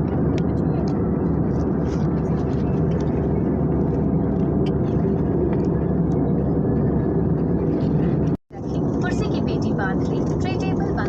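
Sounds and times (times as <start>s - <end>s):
airliner cabin engine hum: 0.0s - 11.0s.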